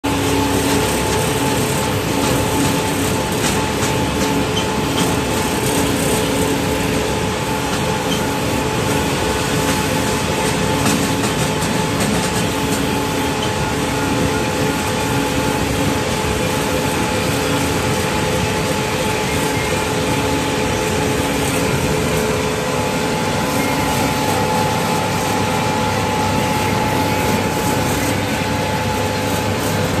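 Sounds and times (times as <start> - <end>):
combine harvester engine hum: 0.1 - 30.0.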